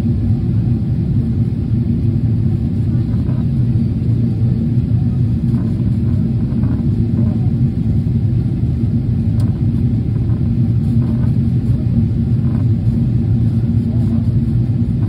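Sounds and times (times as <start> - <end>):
airliner cabin rumble: 0.0 - 15.0
constant low hum: 0.0 - 15.0.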